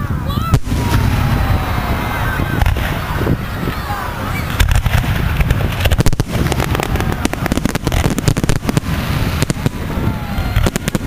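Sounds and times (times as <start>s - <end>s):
firework bangs and crackling: 0.0s - 11.0s.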